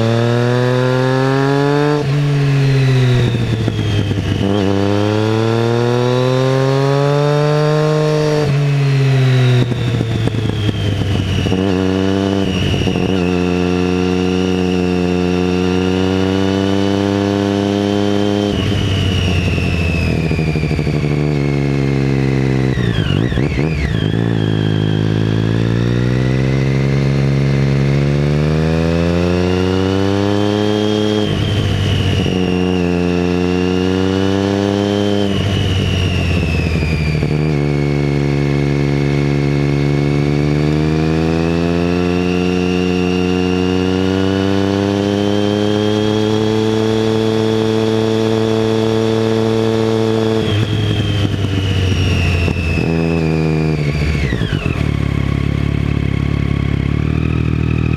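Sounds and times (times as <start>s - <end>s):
motorcycle engine revving through gears: 0.0s - 57.9s.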